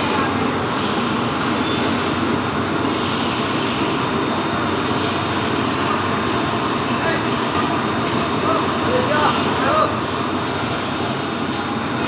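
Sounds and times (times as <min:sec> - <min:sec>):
furnace rumble and hiss: 0:00.0 - 0:12.0.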